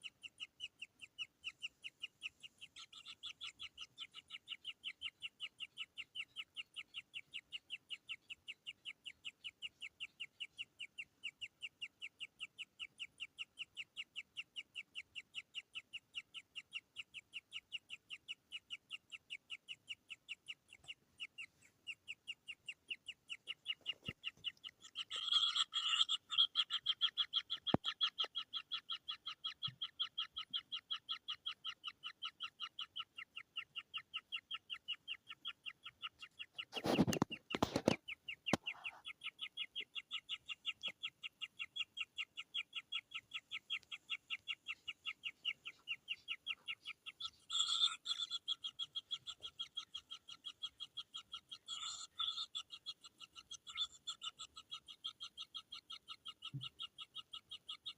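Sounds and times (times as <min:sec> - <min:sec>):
chicks begging calls: 0:00.0 - 0:57.9.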